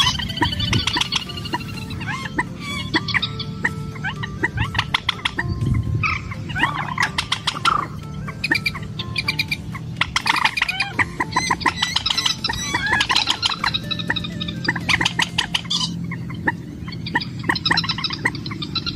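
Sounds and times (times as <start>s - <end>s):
bird clucking and squawking: 0.0s - 18.9s
steady low hum: 0.0s - 18.9s.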